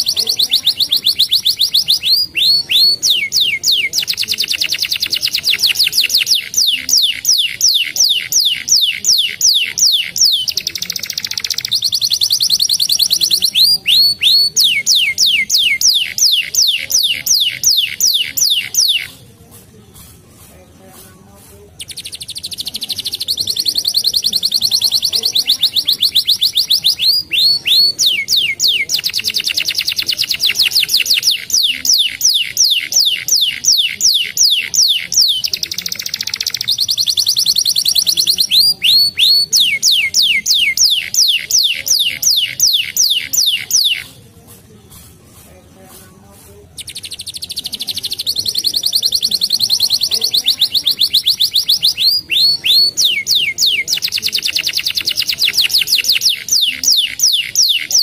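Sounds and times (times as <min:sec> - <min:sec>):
canary singing trills: 0:00.0 - 0:20.8, 0:21.4 - 0:44.4, 0:46.7 - 0:58.0.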